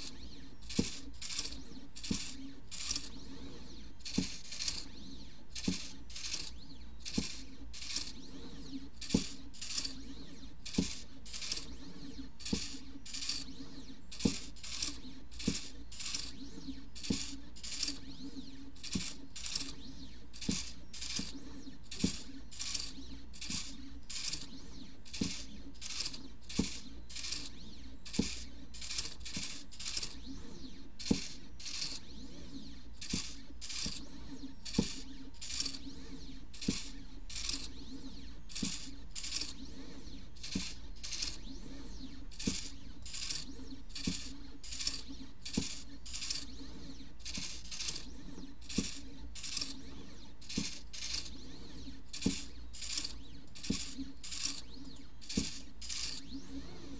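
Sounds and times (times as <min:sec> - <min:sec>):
plotter motors whining: 0:00.0 - 0:56.9
steady low hum: 0:00.0 - 0:56.9.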